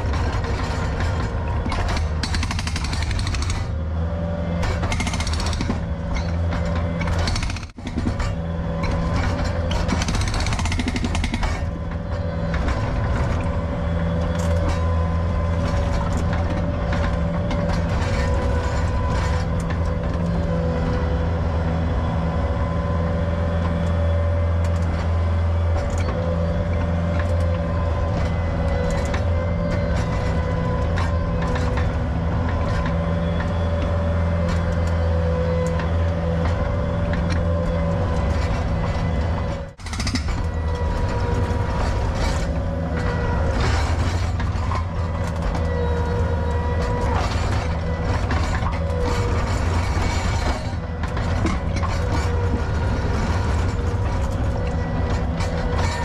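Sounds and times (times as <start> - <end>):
machine clanking on pavement: 0.0 - 3.8, 4.6 - 20.6, 25.7 - 56.0
diesel engine under load: 0.0 - 56.0.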